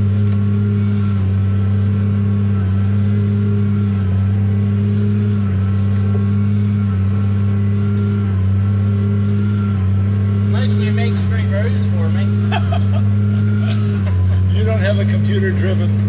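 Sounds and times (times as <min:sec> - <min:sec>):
tractor diesel engine drone: 0:00.0 - 0:16.0.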